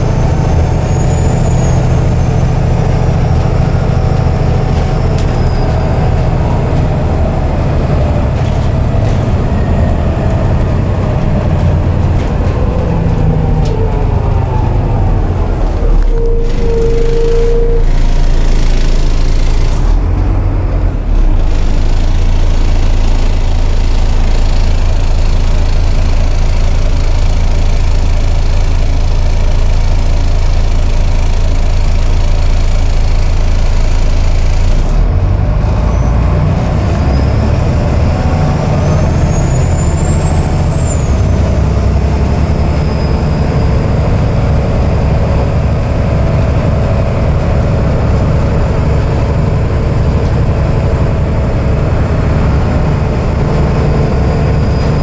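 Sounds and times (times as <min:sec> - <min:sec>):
bus diesel engine drone: 0:00.0 - 0:55.0.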